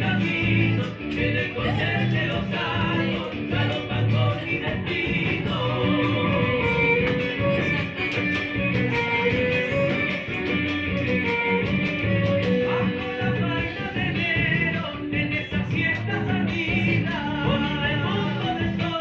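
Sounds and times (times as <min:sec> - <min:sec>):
bass: 0:00.0 - 0:19.0
held melody line: 0:00.0 - 0:19.0
strummed acoustic guitars: 0:00.0 - 0:19.0.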